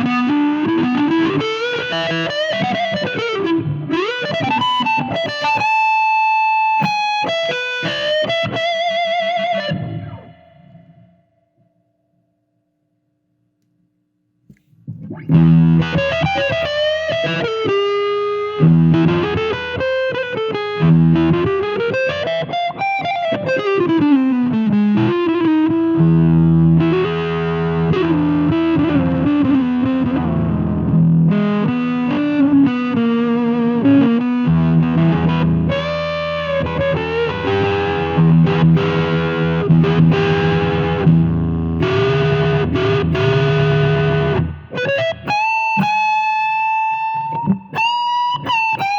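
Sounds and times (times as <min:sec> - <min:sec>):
distorted electric guitar: 0:00.0 - 0:11.8, 0:14.8 - 0:48.9.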